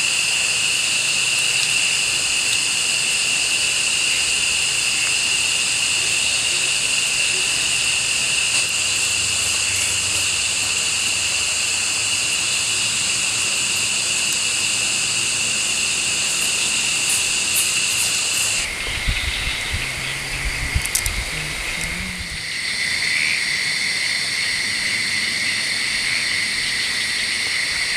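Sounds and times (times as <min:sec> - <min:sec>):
forest insects buzzing: 0:00.0 - 0:27.9.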